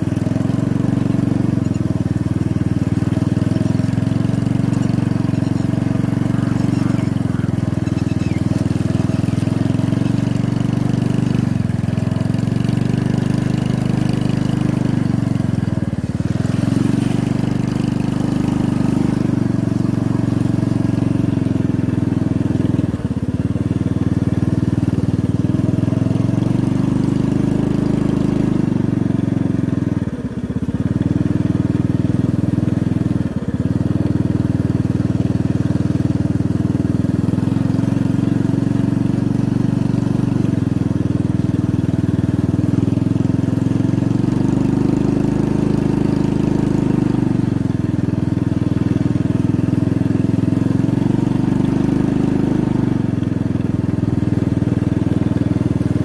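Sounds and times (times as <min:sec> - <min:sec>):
small motorcycle engine running: 0:00.0 - 0:56.0.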